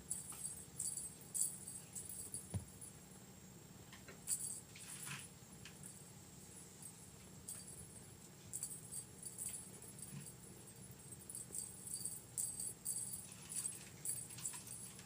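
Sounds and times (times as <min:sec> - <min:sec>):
small jingle bell jingling: 0:00.0 - 0:02.9, 0:04.3 - 0:05.2, 0:06.8 - 0:15.0.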